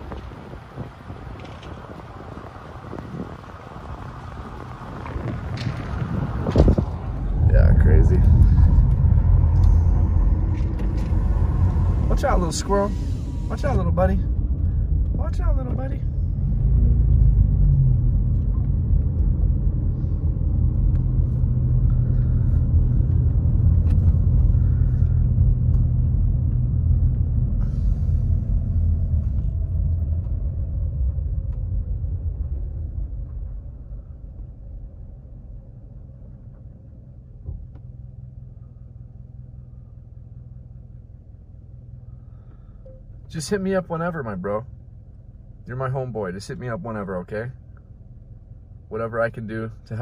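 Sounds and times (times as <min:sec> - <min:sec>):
car engine and tyre rumble: 0:00.0 - 0:50.0.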